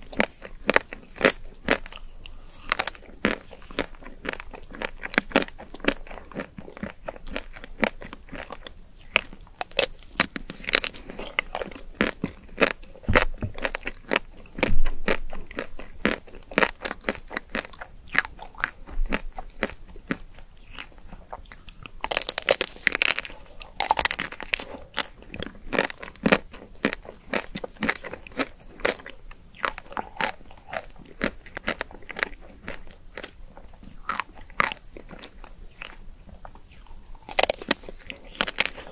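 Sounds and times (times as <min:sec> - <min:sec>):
chocolate shell crunching: 0:00.0 - 0:13.0, 0:13.6 - 0:33.4, 0:34.0 - 0:38.9.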